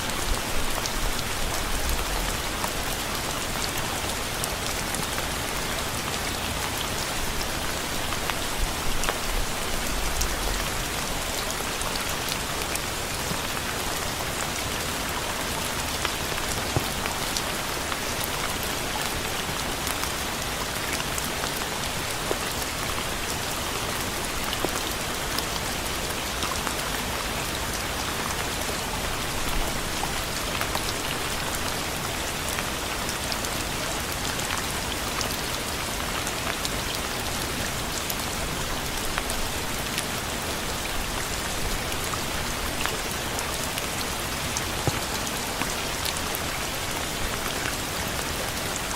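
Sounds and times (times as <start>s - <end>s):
rain pattering on a surface: 0.0s - 48.9s.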